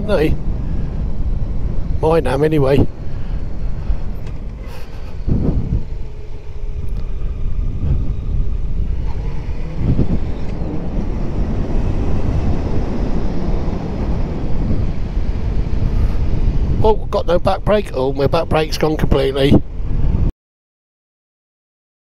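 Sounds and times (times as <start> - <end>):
wind and road noise: 0.0 - 20.3.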